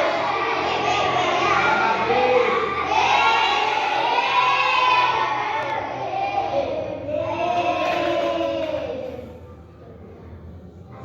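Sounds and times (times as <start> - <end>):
children calling out together: 0.0 - 9.5.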